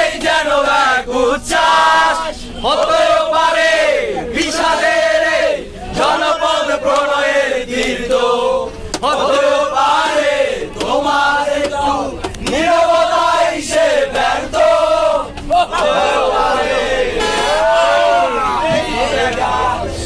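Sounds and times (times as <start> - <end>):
young men singing in unison: 0.0 - 20.0.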